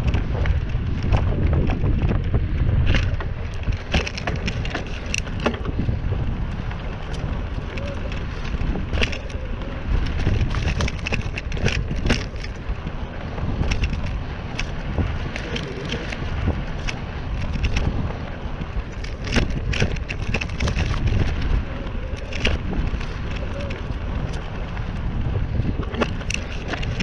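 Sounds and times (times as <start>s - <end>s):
bike rattling over bumps: 0.0s - 27.0s
bike tyres crackling on dirt: 0.0s - 27.0s
wind rumble on microphone: 0.0s - 27.0s.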